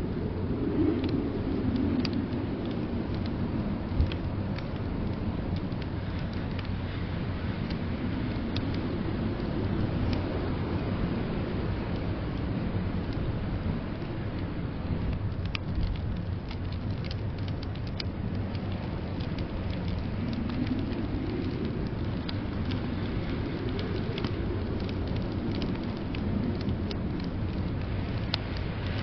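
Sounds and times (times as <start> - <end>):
storm wind rumble: 0.0 - 29.0
wood fire crackling: 0.0 - 29.0.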